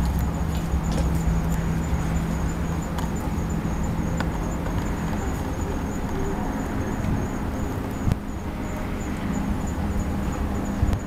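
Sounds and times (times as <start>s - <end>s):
insects chirping trill: 0.0s - 11.0s
low rumble of road traffic: 0.0s - 11.0s.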